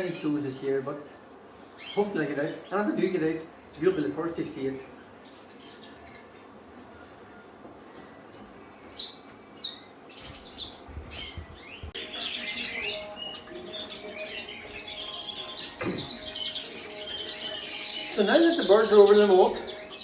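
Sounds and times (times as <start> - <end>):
canaries chirping and warbling: 0.0 - 20.0.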